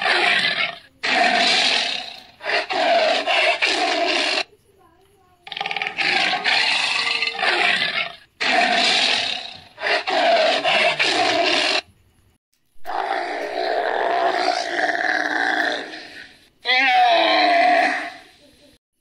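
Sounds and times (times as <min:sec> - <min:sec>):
large animal roaring: 0:00.0 - 0:04.4, 0:05.5 - 0:11.8, 0:12.8 - 0:18.4.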